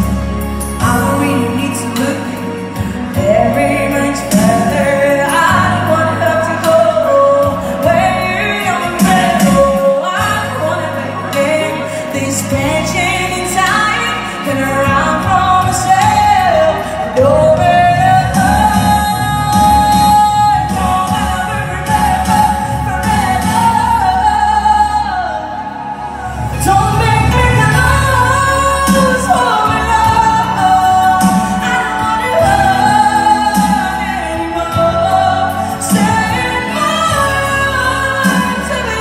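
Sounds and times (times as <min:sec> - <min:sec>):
woman singing into microphone: 0:00.0 - 0:39.0.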